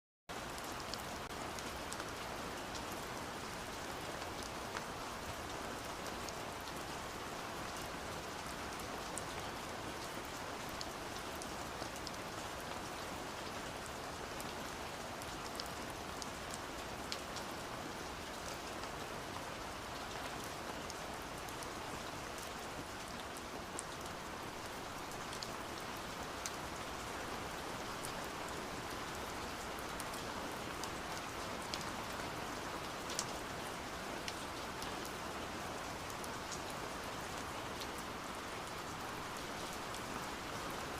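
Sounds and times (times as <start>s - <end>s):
steady rain hiss: 0.3s - 40.9s.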